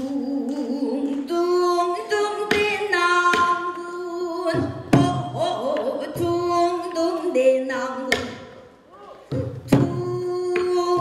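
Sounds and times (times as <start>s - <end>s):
woman singing with vibrato: 0.0s - 11.0s.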